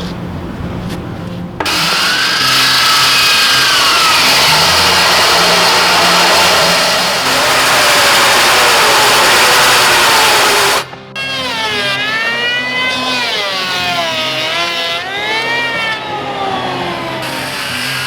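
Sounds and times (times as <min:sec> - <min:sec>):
power tool cutting wood: 0:01.6 - 0:18.0.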